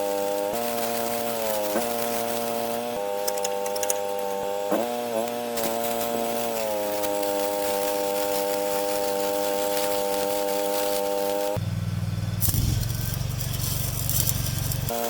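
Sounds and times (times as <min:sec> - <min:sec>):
welding arc crackling and hissing: 0:00.0 - 0:11.6, 0:12.4 - 0:15.0
welding machine engine drone: 0:00.0 - 0:15.0.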